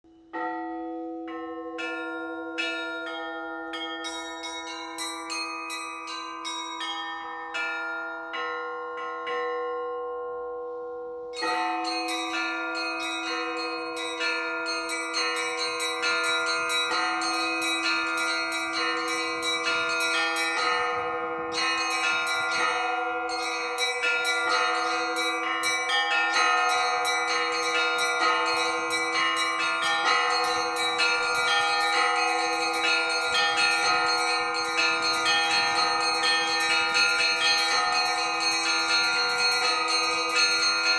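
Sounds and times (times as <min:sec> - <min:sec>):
small high bells ringing: 0:00.1 - 0:40.9
large low bells striking: 0:00.3 - 0:40.9.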